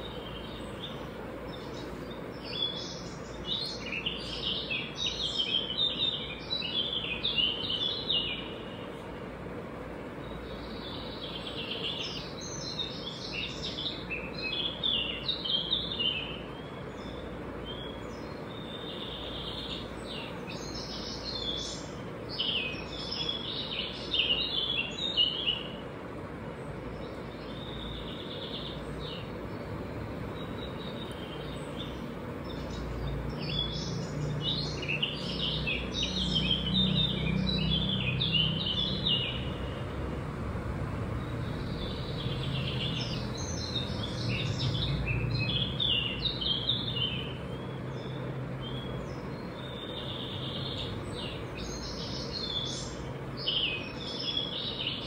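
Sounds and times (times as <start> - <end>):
birds chirping: 0.0 - 55.0
steady background noise: 0.0 - 55.0.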